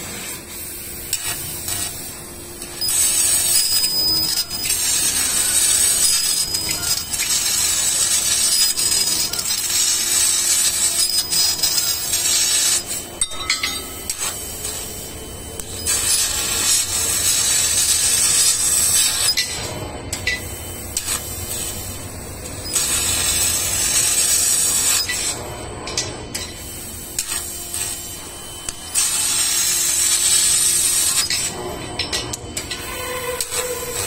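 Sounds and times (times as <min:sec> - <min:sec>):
laser cutter loud steady hiss: 0:00.0 - 0:34.0.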